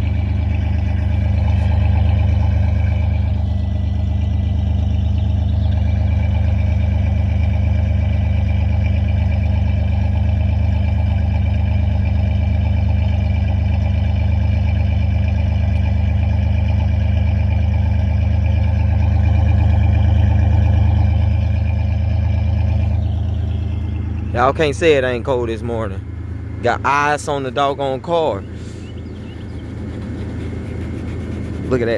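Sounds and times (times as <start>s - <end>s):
truck engine idling: 0.0s - 31.9s.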